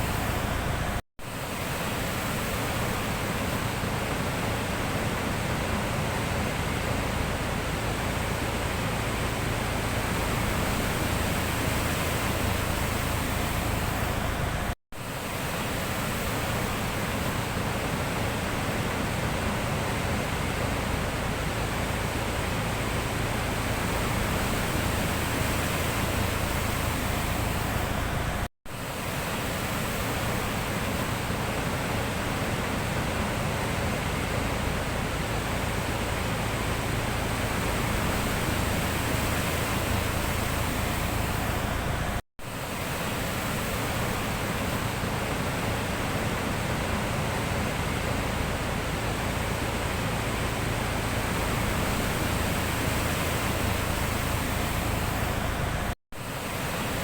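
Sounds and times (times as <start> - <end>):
sea surf rushing: 0.0 - 57.0.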